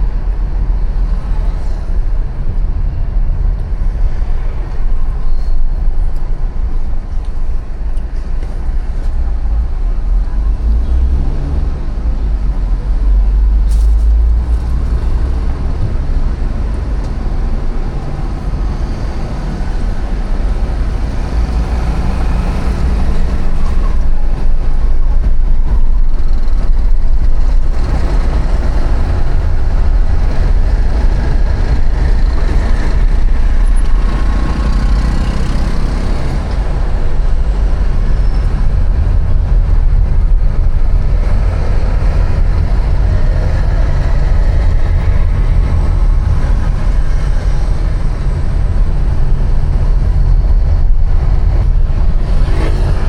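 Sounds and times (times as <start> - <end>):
low traffic rumble: 0.0 - 53.0
passing vehicles: 0.0 - 53.0.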